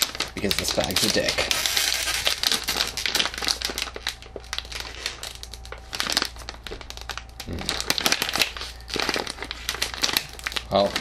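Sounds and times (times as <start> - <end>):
plastic snack bag crinkling: 0.0 - 11.0.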